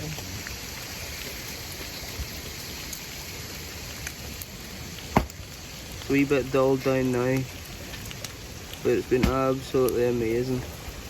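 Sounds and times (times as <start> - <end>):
bacon sizzling in a pan: 0.0 - 11.0.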